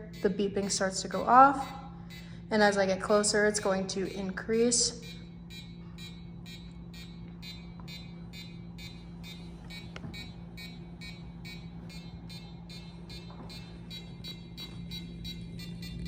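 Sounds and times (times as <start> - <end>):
piezo buzzer beeping: 0.0 - 16.0
steady low hum: 0.0 - 16.0.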